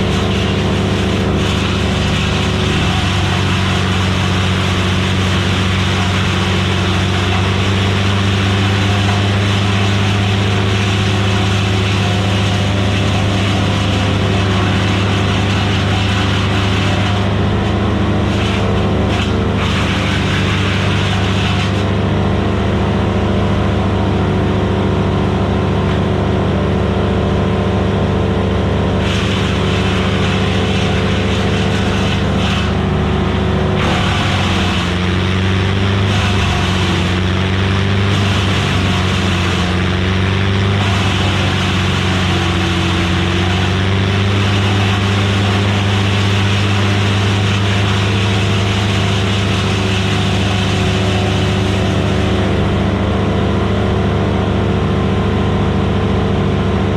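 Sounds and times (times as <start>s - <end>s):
harsh grinding of wood: 0.0s - 23.8s, 28.4s - 54.5s
wood chipper engine running: 0.0s - 56.9s.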